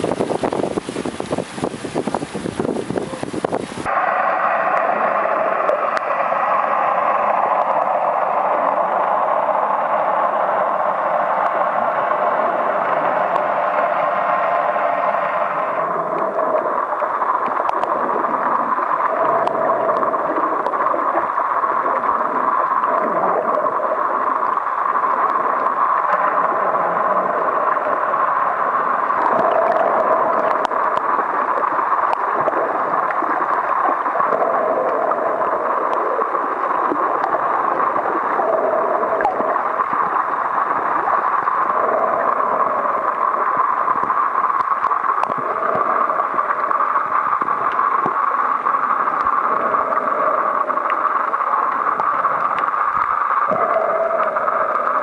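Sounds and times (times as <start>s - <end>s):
low underwater sound: 0.0s - 55.0s
muffled underwater rushing hiss: 0.0s - 55.0s.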